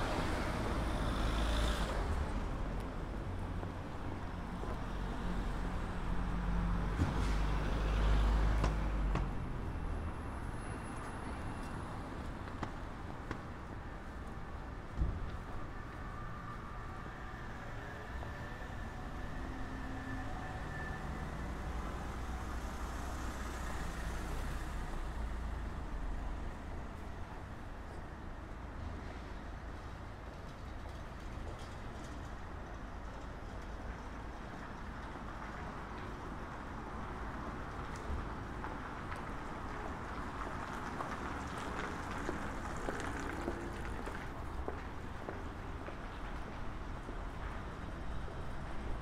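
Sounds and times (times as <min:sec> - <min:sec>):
engine rumble of passing vehicles: 0:00.0 - 0:49.0
road noise: 0:00.0 - 0:49.0
traffic hum: 0:00.0 - 0:49.0.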